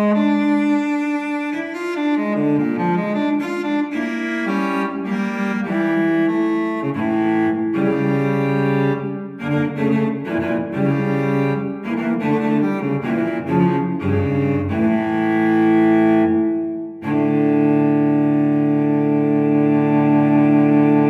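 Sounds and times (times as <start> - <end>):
bowed low strings music: 0.0 - 21.0.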